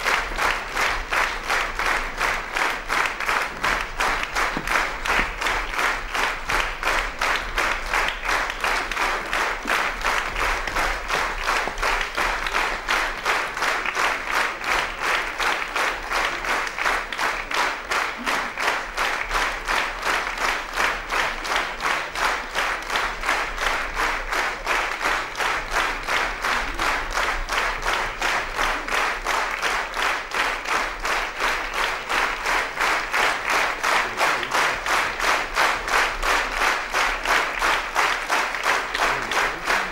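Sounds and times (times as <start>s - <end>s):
audience clapping in rhythm: 0.0s - 39.9s.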